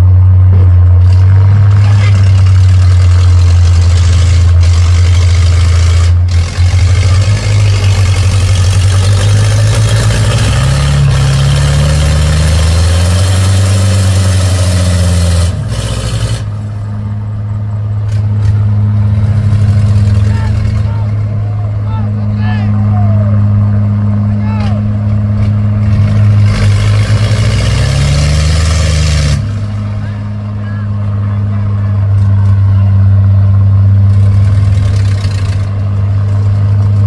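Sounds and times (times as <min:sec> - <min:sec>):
truck engine droning: 0:00.0 - 0:37.0.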